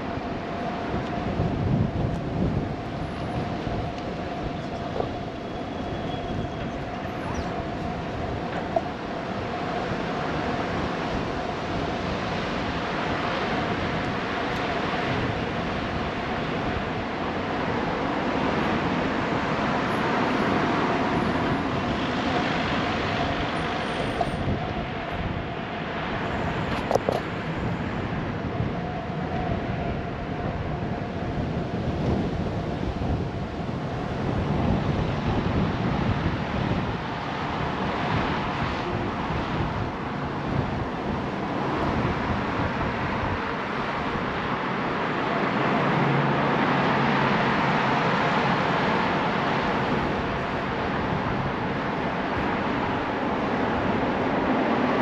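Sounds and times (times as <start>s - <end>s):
passing traffic: 0.0s - 55.0s
road and wind noise from cycling: 0.0s - 55.0s.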